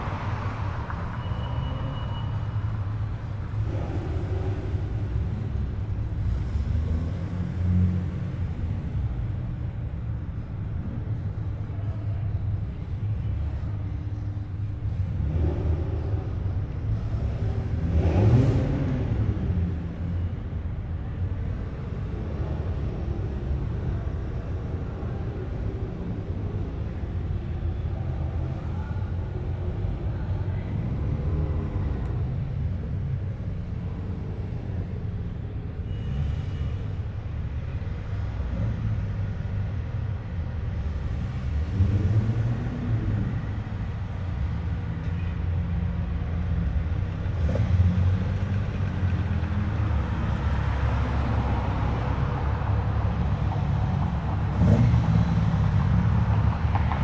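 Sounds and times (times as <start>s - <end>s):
car approaching: 0.0s - 57.0s
cars driving by: 0.0s - 57.0s.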